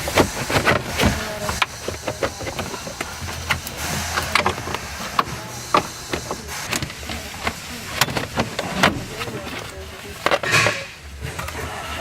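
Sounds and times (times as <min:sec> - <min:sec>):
hand tools clicking and clanking: 0:00.0 - 0:12.0.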